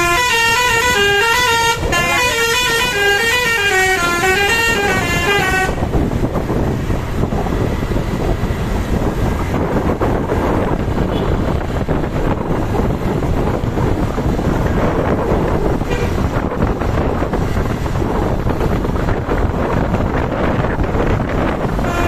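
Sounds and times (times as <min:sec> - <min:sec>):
vehicle rumble and road noise: 0:00.0 - 0:22.0
wind buffeting the microphone: 0:00.0 - 0:22.0.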